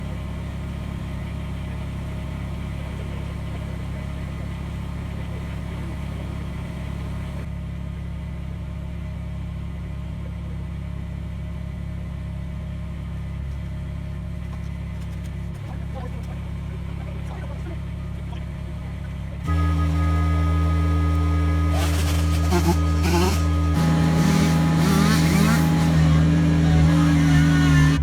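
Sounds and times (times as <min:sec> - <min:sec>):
tractor diesel engine running: 0:00.0 - 0:07.5, 0:10.1 - 0:28.0.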